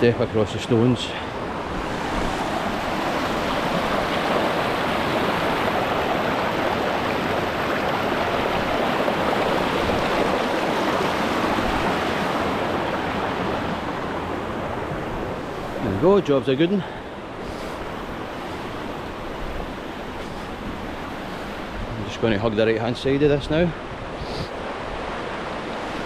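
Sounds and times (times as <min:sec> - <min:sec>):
water rushing over a small dam: 0:00.0 - 0:26.0.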